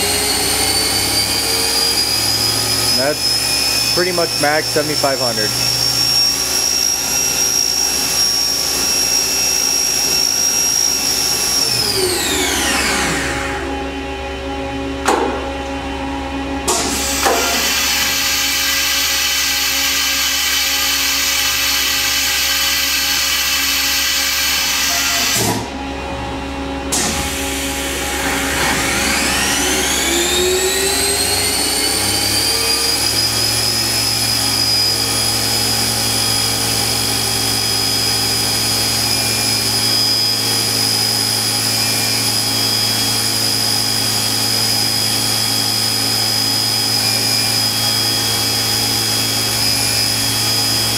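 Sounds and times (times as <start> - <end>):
machine spindle whine: 0.0 - 50.9.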